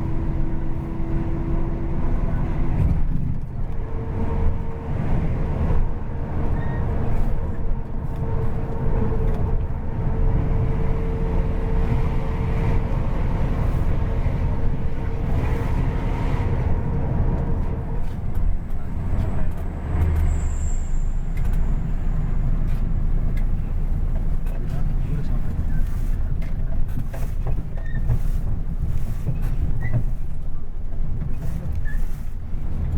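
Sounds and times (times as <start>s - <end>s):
coach engine and road rumble: 0.0s - 32.9s.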